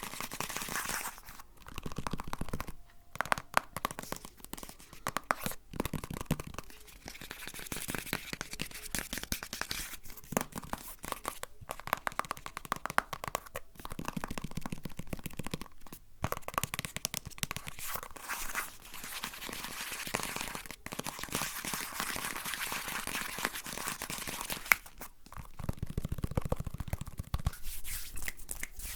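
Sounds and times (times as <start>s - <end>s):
crinkling and rustling by hands: 0.0s - 28.9s.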